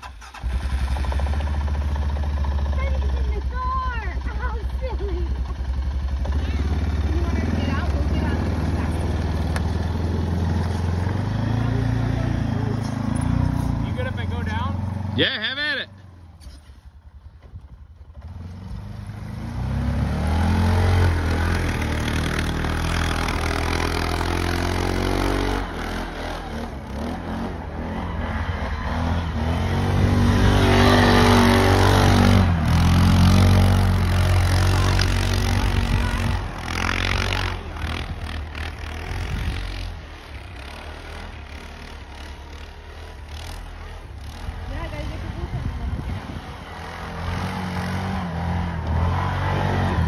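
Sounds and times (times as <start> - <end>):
atv engine revving: 0.0 - 16.2, 17.2 - 50.0.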